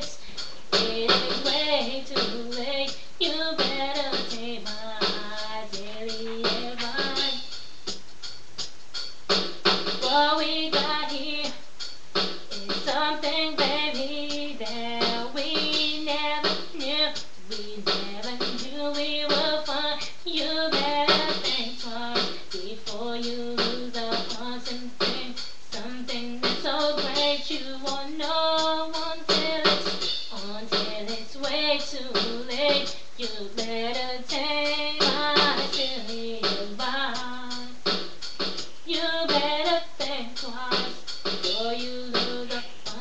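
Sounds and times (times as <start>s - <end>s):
woman singing: 0.0s - 7.5s, 10.0s - 11.6s, 12.5s - 37.8s, 38.8s - 43.0s
backing track with drum hits: 0.0s - 43.0s.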